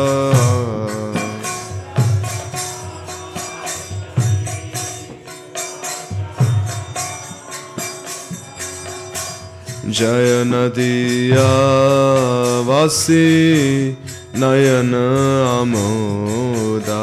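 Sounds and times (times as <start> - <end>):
hand cymbals striking: 0.0 - 17.0.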